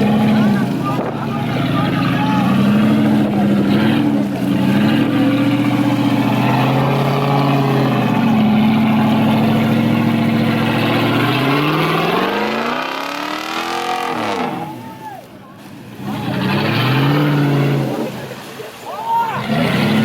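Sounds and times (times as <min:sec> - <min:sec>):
engine revving: 0:00.0 - 0:15.0, 0:15.6 - 0:18.5, 0:19.3 - 0:20.0.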